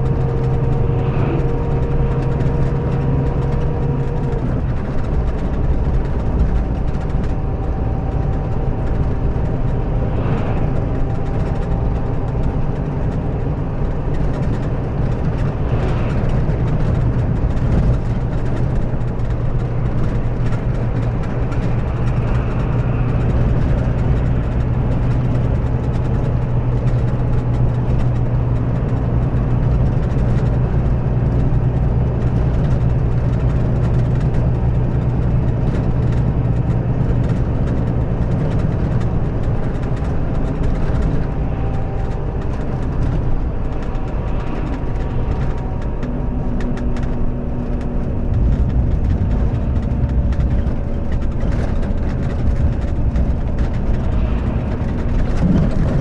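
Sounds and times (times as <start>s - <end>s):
diesel bus engine droning: 0.0s - 56.0s.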